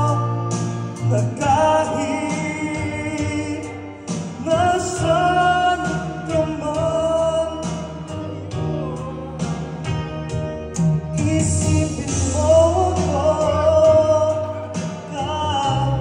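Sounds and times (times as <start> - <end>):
backing music: 0.0 - 16.0
man singing a love ballad: 0.0 - 16.0.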